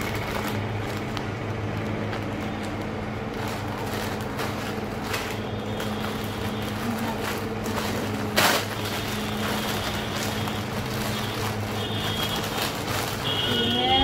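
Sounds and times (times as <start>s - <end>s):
appliance motor hum: 0.0s - 14.0s
plastic packaging crinkling: 0.0s - 14.0s.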